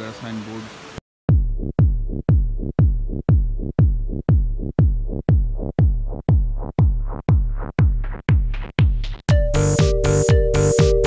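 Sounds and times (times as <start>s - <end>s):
heavy deep kick drum: 1.3s - 11.0s
electronic dance music: 1.8s - 11.0s.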